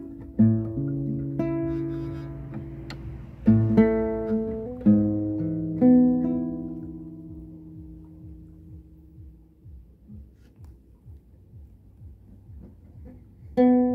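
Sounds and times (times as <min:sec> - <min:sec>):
acoustic guitar chords: 0:00.0 - 0:13.9.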